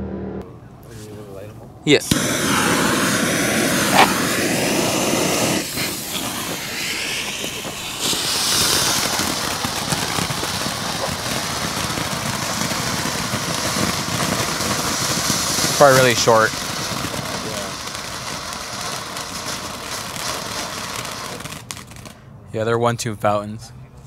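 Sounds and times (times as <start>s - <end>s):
firework fountain hissing: 1.9s - 22.2s
firework pops: 2.0s - 22.2s.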